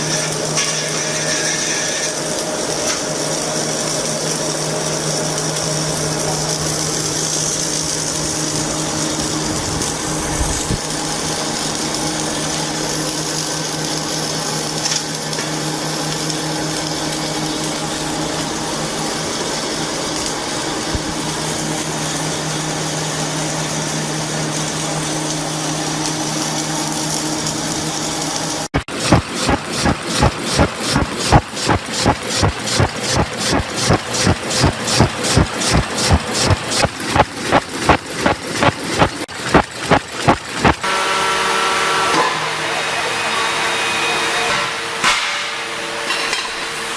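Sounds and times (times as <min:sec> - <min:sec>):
factory machinery humming: 0:00.0 - 0:46.9.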